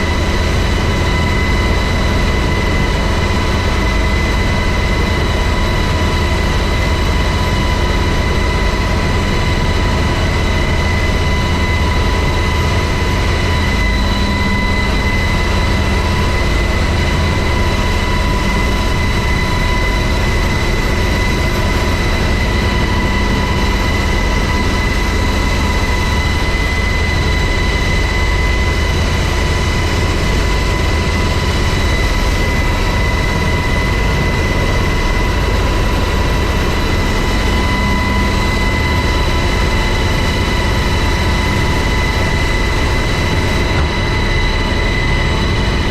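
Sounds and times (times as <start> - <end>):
helicopter running: 0.0 - 45.9.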